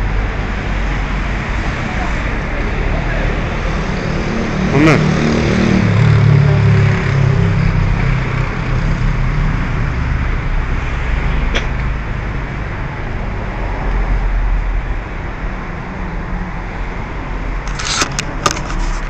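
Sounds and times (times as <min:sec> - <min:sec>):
car engine running nearby: 0:00.0 - 0:19.0
hum of passing traffic: 0:00.0 - 0:19.0.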